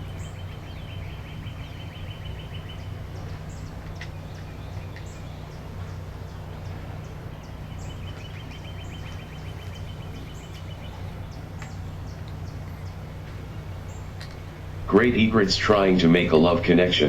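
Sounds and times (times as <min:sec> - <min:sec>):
birds chirping: 0:00.0 - 0:17.0
rapid bird trill: 0:00.0 - 0:17.0
steady low hum: 0:00.0 - 0:17.0.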